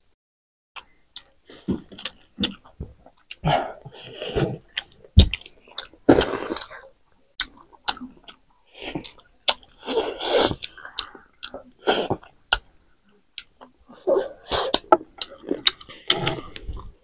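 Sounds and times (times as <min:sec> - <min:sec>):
wet chewing and lip-smacking: 0:00.8 - 0:17.0.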